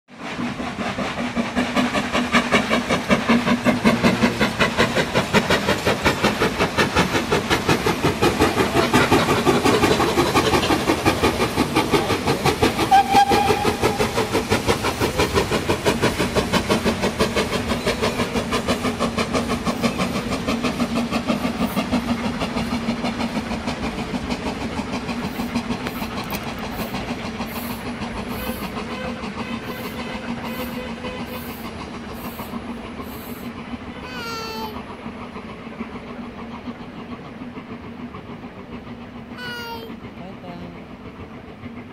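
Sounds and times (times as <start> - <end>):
steam locomotive exhaust beats: 0.1 - 41.9
train wheel clatter: 0.1 - 41.9.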